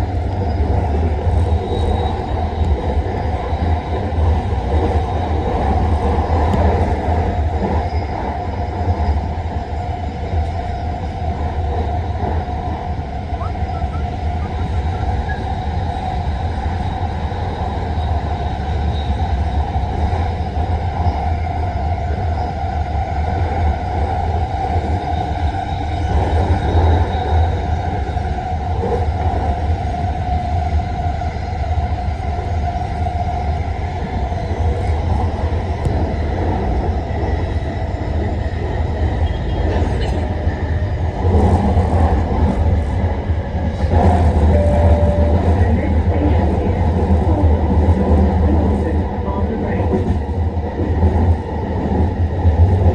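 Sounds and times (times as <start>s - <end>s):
metro train rumbling: 0.0s - 52.9s.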